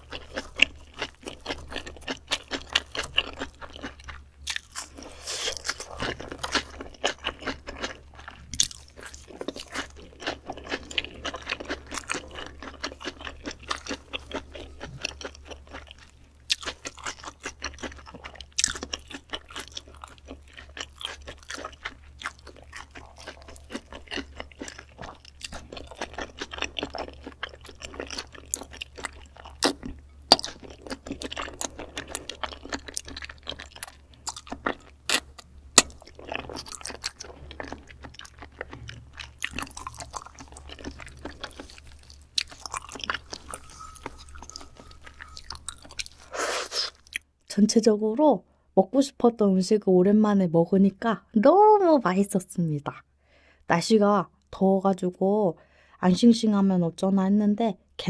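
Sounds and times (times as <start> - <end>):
wet chewing clicks and crunches: 0.0 - 47.3.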